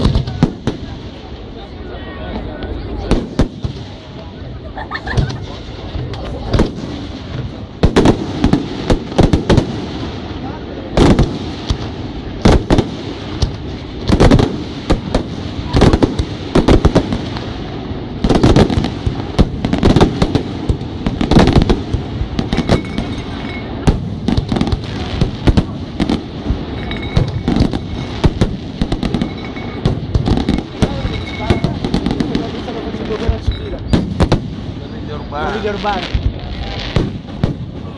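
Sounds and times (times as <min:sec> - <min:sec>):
fireworks bursting in bangs: 0:00.0 - 0:01.6, 0:02.8 - 0:37.9.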